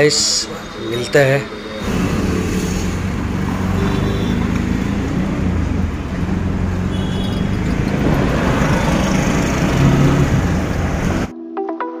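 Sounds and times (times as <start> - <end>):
road and traffic noise: 0.0 - 11.3
engine drone: 0.2 - 11.3.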